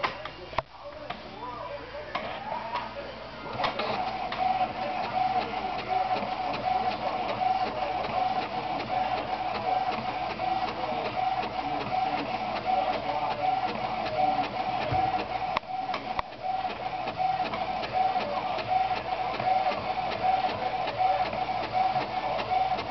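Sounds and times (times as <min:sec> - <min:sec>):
printer motor pulsing: 0:03.5 - 0:22.9.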